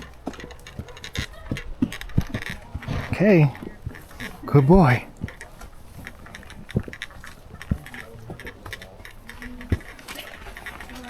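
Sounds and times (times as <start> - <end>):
dull thumps: 0.0 - 11.0
light ticking and rustling: 0.0 - 11.0.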